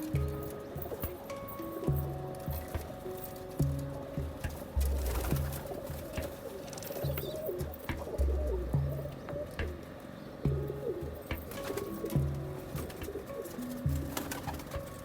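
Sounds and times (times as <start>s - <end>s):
background music beat: 0.0s - 15.0s
pigeons cooing: 0.0s - 15.0s.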